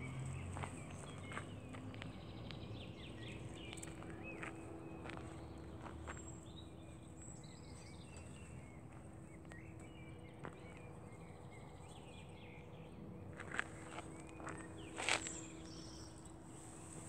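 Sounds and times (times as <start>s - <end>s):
birdsong chirping: 0.0s - 17.0s.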